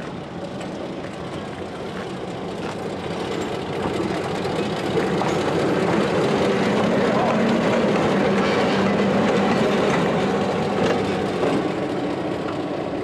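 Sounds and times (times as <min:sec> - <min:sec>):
diesel locomotive engine humming: 0:00.0 - 0:13.0.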